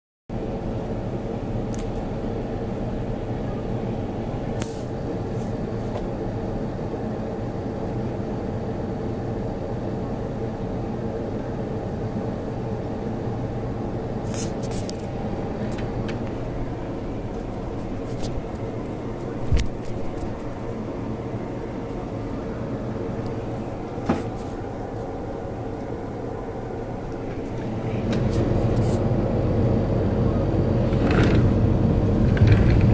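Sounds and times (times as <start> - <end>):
low droning hum: 0.3 - 32.9.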